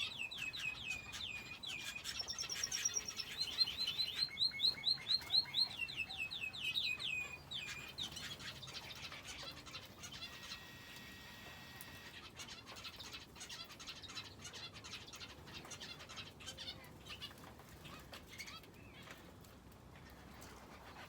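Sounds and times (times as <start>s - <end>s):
finches and canary chirping: 0.0s - 19.2s.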